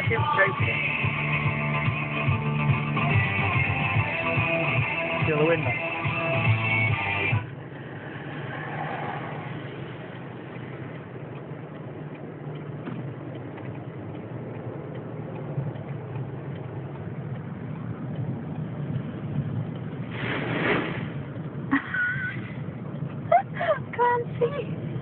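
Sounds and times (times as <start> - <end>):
car engine idling: 0.0 - 20.3, 20.9 - 25.0
wind buffeting car: 0.0 - 25.0.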